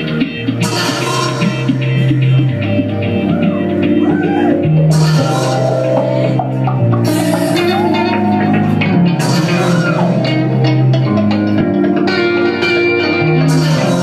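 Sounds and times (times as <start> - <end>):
bass notes: 0.0 - 14.0
electric guitar: 0.0 - 14.0.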